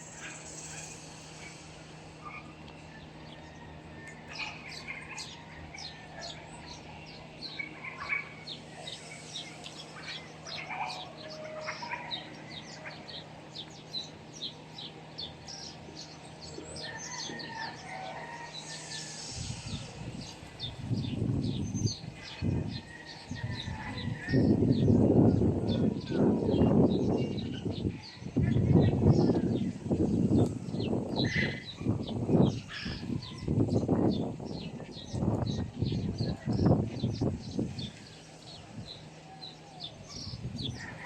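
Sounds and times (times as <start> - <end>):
faint steady hum: 0.0 - 41.0
small birds chirping: 0.0 - 41.0.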